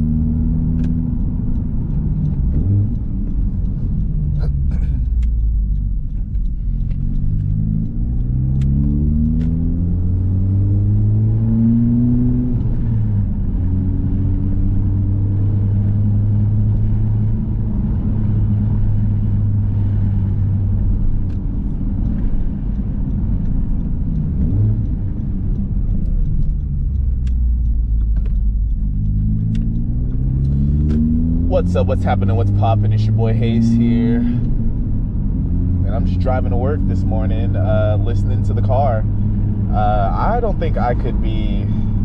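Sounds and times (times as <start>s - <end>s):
car exhaust accelerating and cruising: 0.0s - 42.0s.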